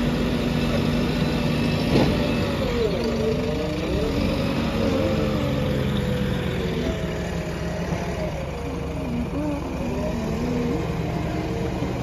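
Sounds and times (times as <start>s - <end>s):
backhoe diesel engine under load: 0.0s - 12.0s.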